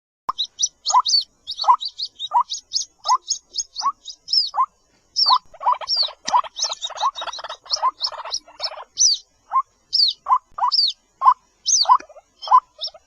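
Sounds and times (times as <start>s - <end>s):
high bird chirps: 0.3s - 13.0s.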